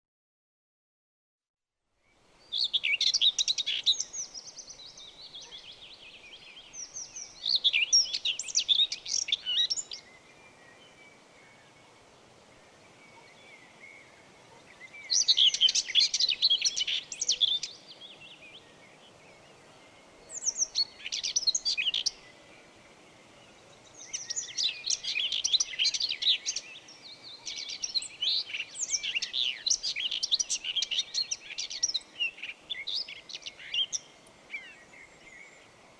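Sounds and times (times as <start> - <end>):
faint background hiss: 1.8 - 35.9
songbirds chirping and singing: 2.4 - 35.8.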